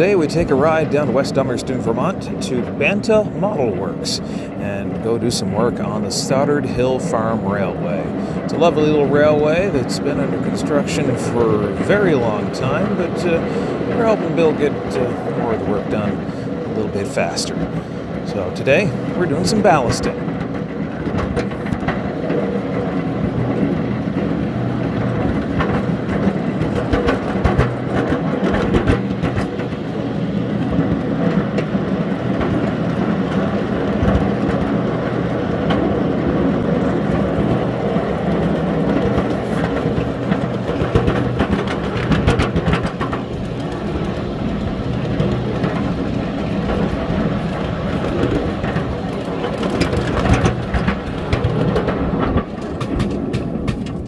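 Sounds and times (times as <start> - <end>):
small locomotive engine droning: 0.0 - 54.0
wheels clicking on rails: 0.0 - 54.0.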